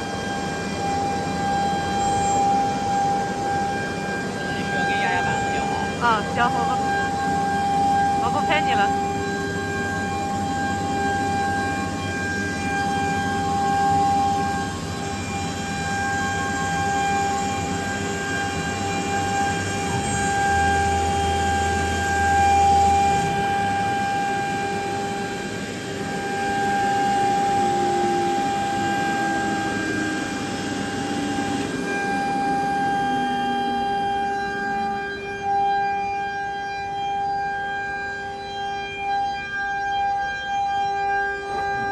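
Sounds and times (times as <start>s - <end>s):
rushing machine noise: 0.0s - 36.5s
spindle high whine: 0.0s - 41.9s
vacuum pump running: 0.0s - 41.9s.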